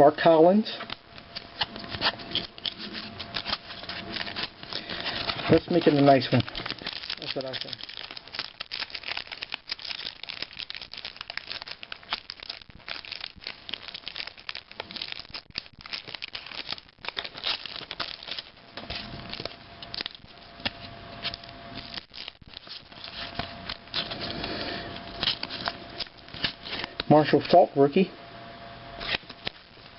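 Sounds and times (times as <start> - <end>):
wrapper crinkling and tearing: 0.8 - 27.5, 29.0 - 29.9
cards being handled: 0.8 - 27.6, 29.0 - 29.9.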